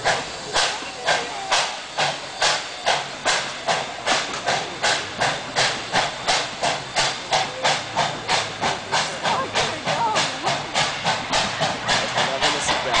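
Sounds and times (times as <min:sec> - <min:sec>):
steam locomotive chuffing: 0:00.0 - 0:13.0.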